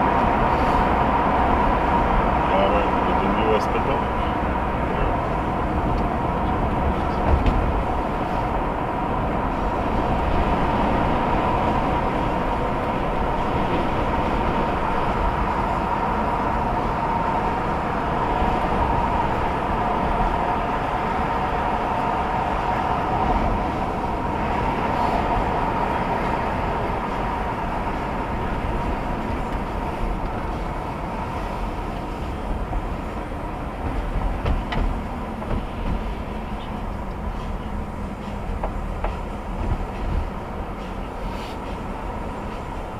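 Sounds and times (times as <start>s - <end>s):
tyre and engine rumble: 0.0s - 42.9s.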